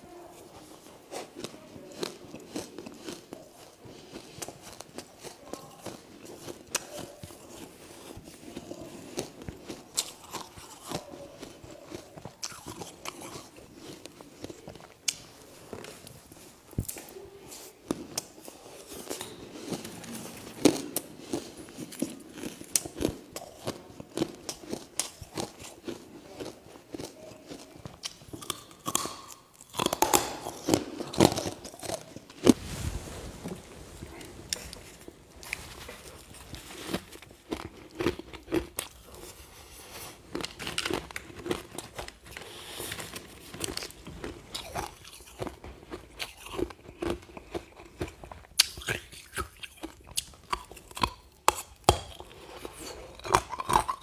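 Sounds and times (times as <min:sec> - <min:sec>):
person chewing ice: 0:00.5 - 0:32.6, 0:34.6 - 0:54.0.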